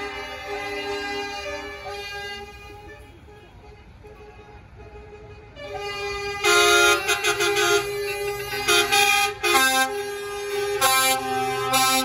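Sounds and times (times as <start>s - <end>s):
truck air horn blasts: 0.0s - 12.0s.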